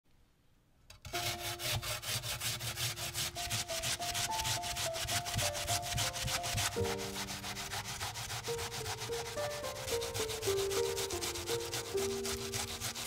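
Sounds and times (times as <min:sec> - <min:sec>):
onion grated on metal grater: 0:00.9 - 0:13.0.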